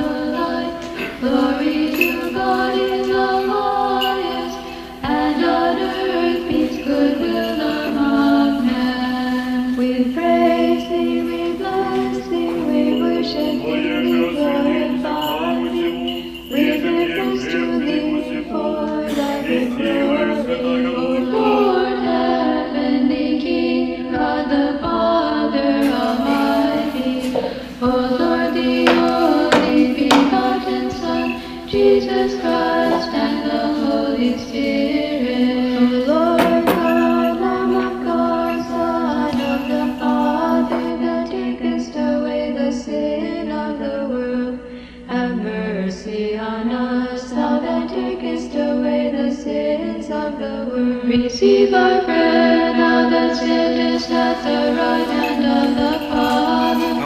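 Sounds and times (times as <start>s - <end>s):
choir chanting a cappella: 0.0s - 57.0s.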